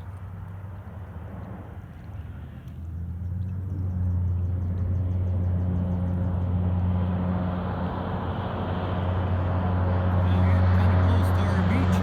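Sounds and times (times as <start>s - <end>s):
aircraft engines humming: 0.0s - 12.0s.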